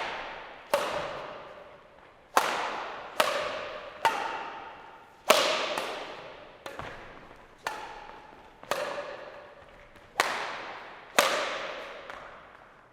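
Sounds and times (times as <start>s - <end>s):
racket hitting shuttlecock: 0.0s - 12.9s.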